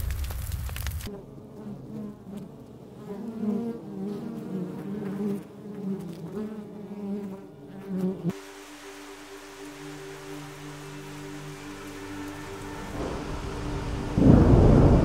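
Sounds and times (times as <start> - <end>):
honeybees buzzing: 1.1 - 15.0.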